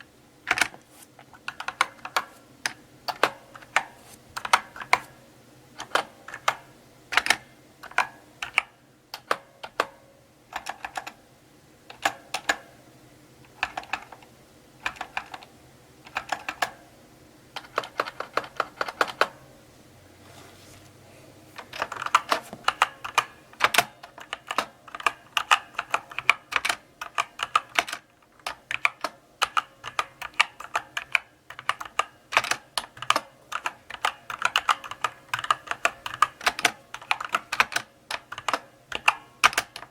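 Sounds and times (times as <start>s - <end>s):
mechanical keyboard typing: 0.0s - 5.2s, 5.8s - 11.2s, 11.9s - 12.7s, 13.5s - 16.8s, 17.5s - 19.4s, 21.6s - 39.9s.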